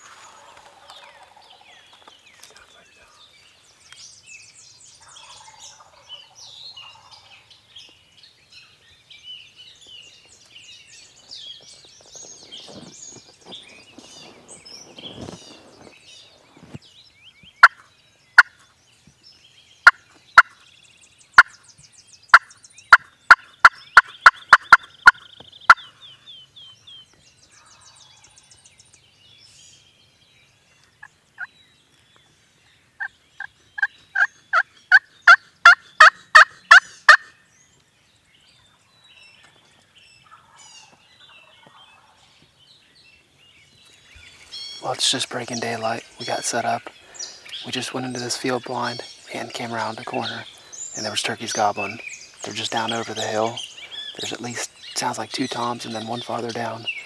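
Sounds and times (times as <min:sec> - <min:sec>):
faint songbirds singing: 0:00.0 - 0:57.0.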